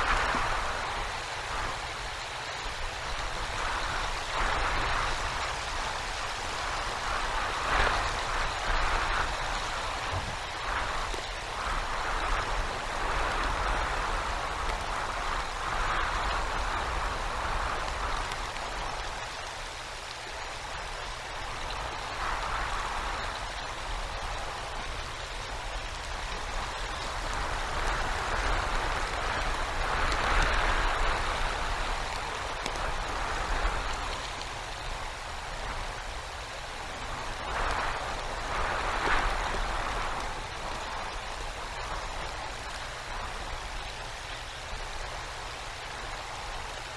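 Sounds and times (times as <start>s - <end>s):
hiss of icy rain and snow: 0.0s - 46.9s
low rumble of wind buffeting: 0.0s - 46.9s
wind gusting: 0.0s - 46.9s.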